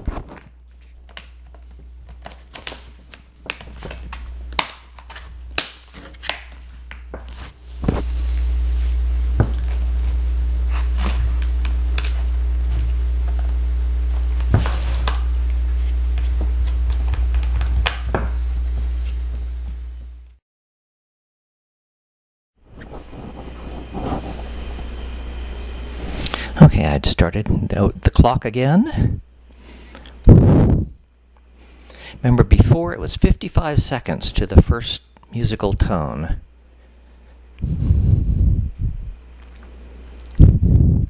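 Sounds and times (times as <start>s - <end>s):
loud steady low hum: 0.0s - 20.4s, 22.6s - 41.0s.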